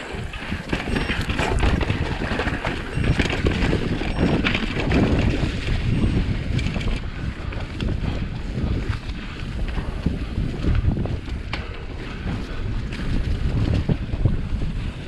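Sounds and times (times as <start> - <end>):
bike clicks and rattles: 0.0 - 15.0
knobby tyres rolling on dirt trail: 0.0 - 15.0
wind buffeting microphone: 0.0 - 15.0.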